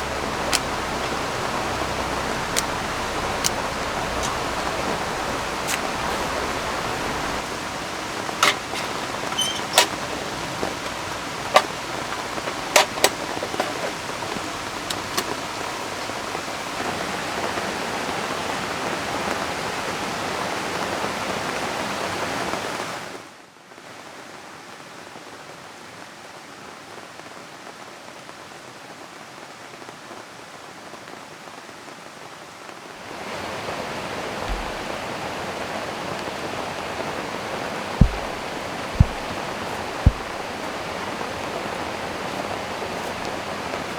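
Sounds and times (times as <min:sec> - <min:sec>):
river water and rain hiss: 0:00.0 - 0:43.9.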